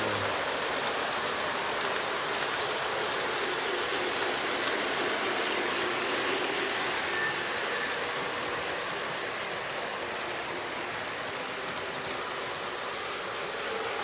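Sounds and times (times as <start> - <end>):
model train wheels rolling on rails: 0.0 - 14.0.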